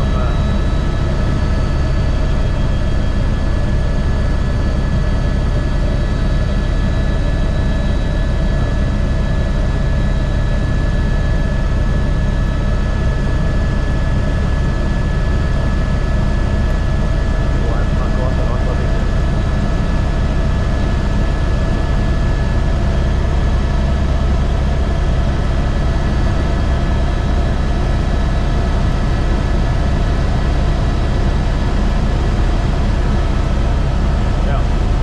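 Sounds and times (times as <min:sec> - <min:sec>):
helicopter rotor and engine drone: 0:00.0 - 0:35.0
high-pitched turbine whine: 0:00.0 - 0:35.0.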